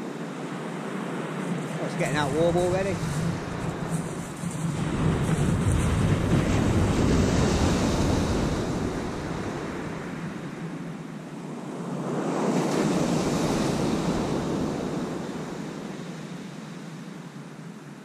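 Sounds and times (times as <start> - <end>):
surf washing onto beach: 0.0 - 10.9, 12.0 - 16.3
wind rumbling on microphone: 0.0 - 18.0.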